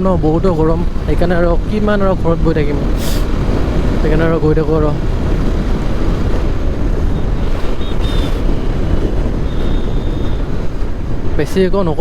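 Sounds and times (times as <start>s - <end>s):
low road rumble: 0.0s - 12.0s
wind buffeting microphone: 0.0s - 12.0s.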